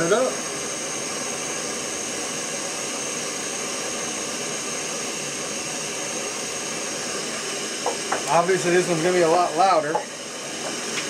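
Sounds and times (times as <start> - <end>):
gas stove burner roaring: 0.0 - 11.0.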